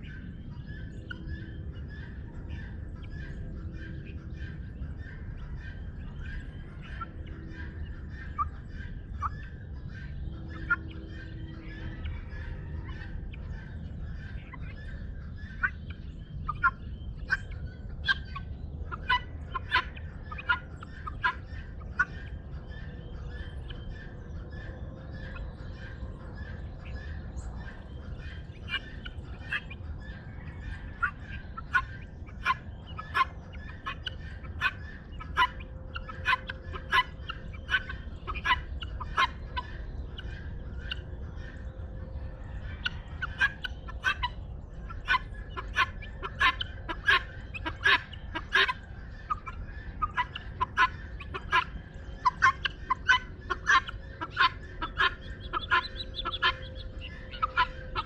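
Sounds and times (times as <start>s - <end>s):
guineafowl calling: 0.0s - 58.0s
low background rumble: 0.0s - 58.0s.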